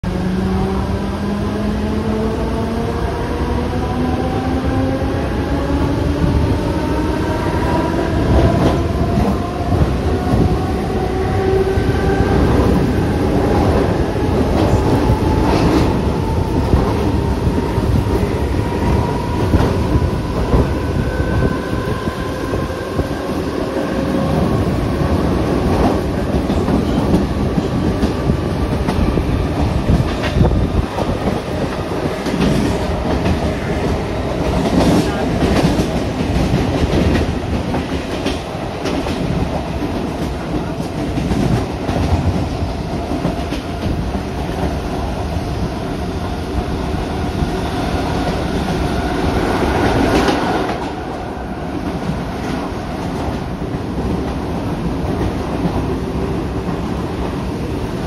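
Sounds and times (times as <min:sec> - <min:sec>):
wheels rumbling on rail: 0:00.1 - 0:58.0.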